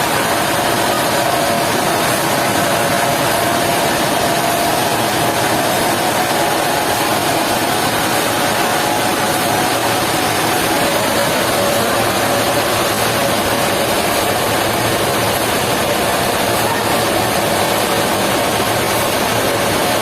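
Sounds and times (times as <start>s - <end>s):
sawmill machinery running: 0.0s - 20.0s.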